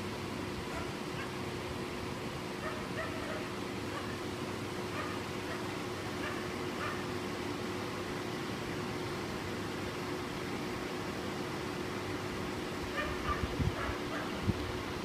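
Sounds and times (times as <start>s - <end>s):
outdoor background noise: 0.0s - 15.0s
steady hum: 0.0s - 15.0s.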